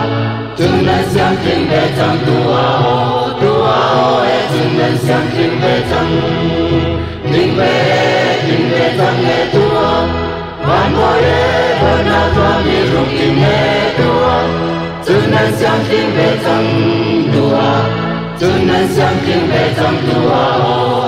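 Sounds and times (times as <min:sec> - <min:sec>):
group singing together: 0:00.0 - 0:21.0
instrumental accompaniment: 0:00.0 - 0:21.0.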